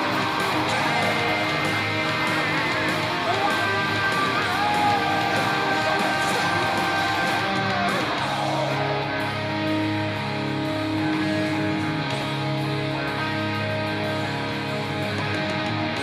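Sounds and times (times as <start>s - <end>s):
heavy metal distorted electric guitar: 0.0s - 16.0s.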